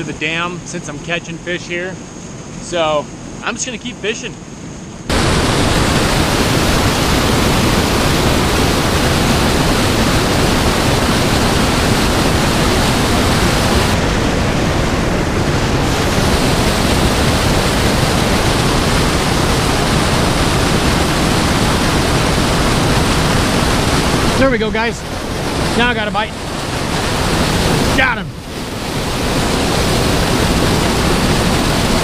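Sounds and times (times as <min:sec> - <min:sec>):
white water rushing: 0:05.1 - 0:32.0.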